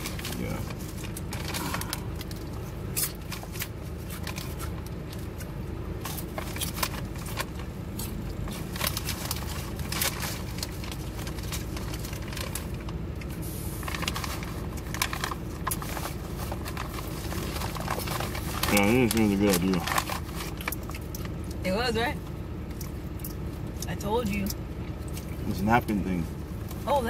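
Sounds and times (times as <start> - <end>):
chewing crunchy sandwich: 0.0 - 21.6, 22.2 - 23.9, 24.5 - 25.9
low hum: 0.0 - 27.0.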